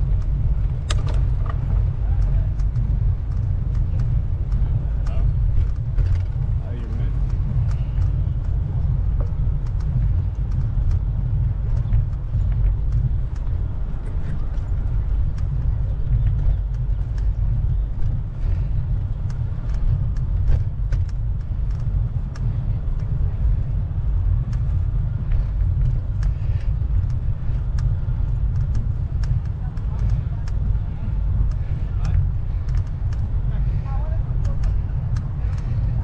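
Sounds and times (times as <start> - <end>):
wind rumble on microphone: 0.0 - 36.0
faint clicks: 0.1 - 36.0.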